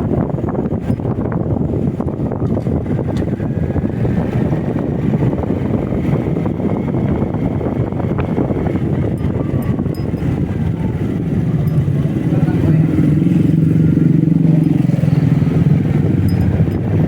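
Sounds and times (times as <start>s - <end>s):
motorcycle engine: 0.0s - 17.0s
road noise: 0.0s - 17.0s
wind rushing over microphone: 0.0s - 17.0s.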